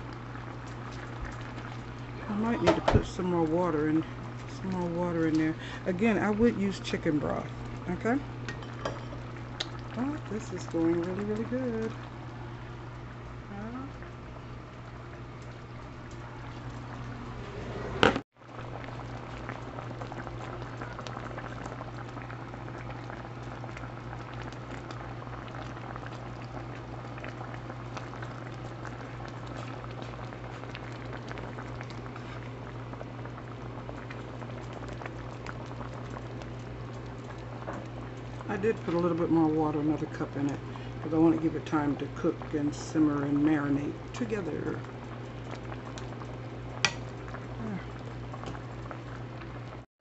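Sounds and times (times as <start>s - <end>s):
gravy bubbling in skillet: 0.0s - 49.9s.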